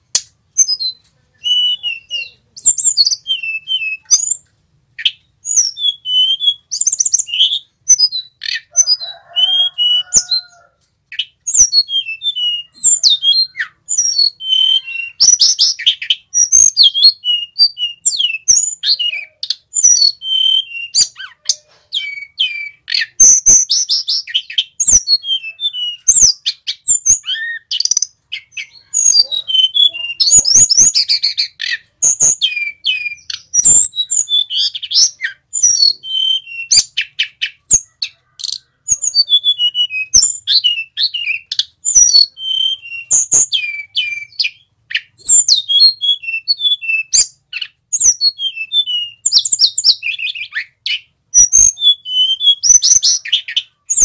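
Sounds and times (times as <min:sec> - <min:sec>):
bird chirps whistles and trills: 0:00.1 - 0:54.0.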